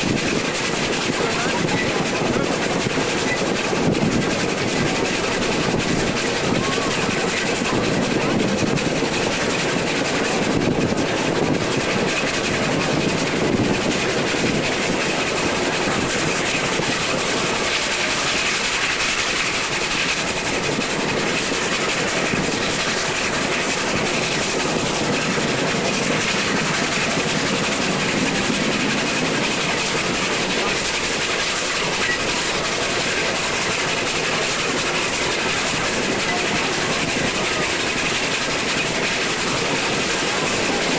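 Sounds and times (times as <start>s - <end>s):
train wheels on rail: 0.0s - 40.9s.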